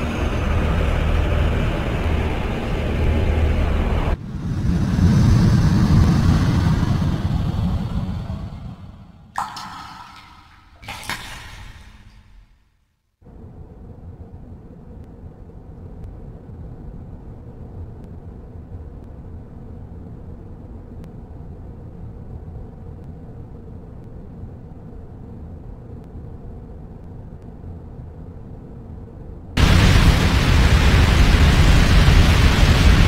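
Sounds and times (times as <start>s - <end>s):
steady low rumble: 0.0s - 12.5s, 13.2s - 33.0s.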